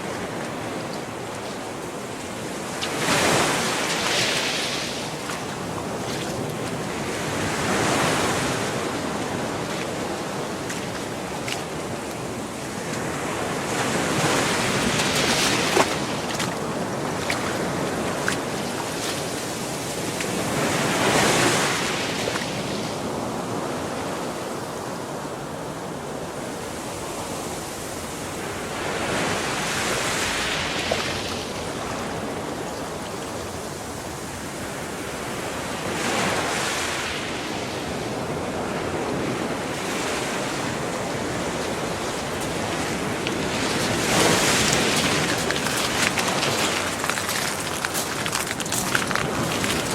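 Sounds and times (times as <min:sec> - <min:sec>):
small waves breaking on sand: 0:00.0 - 0:49.9.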